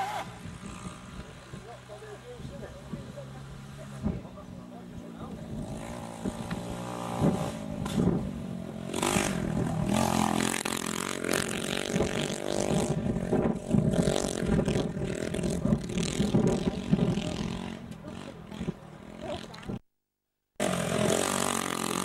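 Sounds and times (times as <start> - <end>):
motorbike engine revving: 0.0 - 19.8, 20.6 - 22.0.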